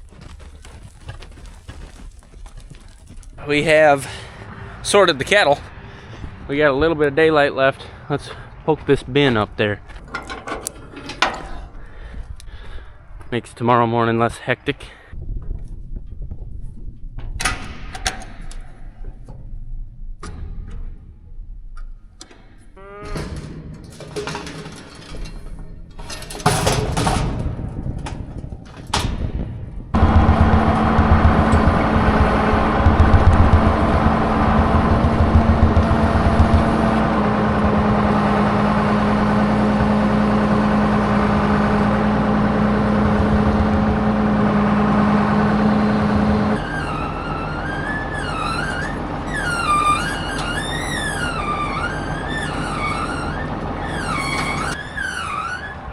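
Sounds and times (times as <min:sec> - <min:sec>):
heavy machinery rumbling: 0:03.3 - 0:13.5, 0:15.2 - 0:55.9.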